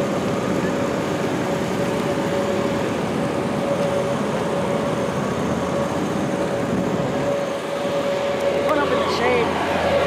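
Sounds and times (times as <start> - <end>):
small tractor engines droning: 0.0 - 10.0
steady whining tone: 0.0 - 10.0.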